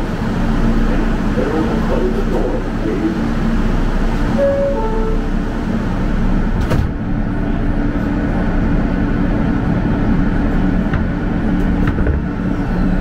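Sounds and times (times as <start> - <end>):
subway train rumble and hum: 0.0 - 13.0.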